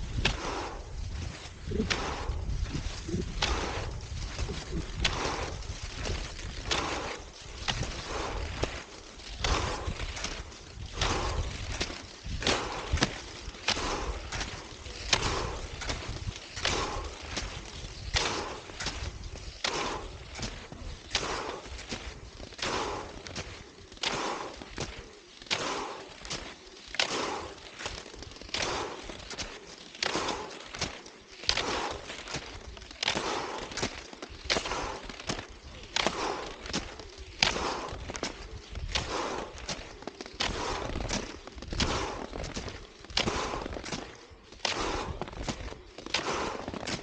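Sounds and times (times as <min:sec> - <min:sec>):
skis and poles on snow: 0:00.0 - 0:47.0.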